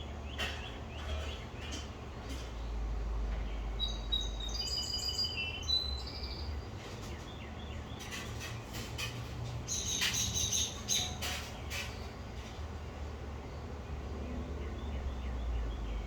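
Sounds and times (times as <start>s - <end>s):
songbirds chirping: 0.0s - 8.8s, 9.4s - 16.0s.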